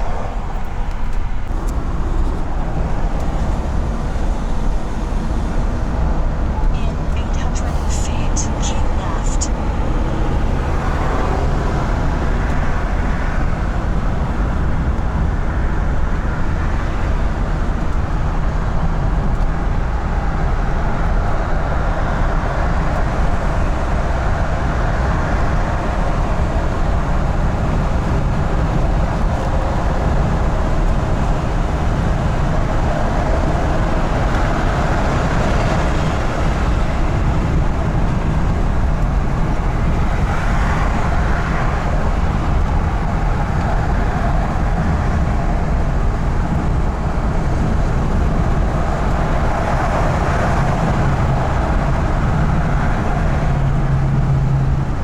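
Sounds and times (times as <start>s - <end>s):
road and tyre noise: 0.0s - 55.0s
van engine drone: 0.0s - 55.0s.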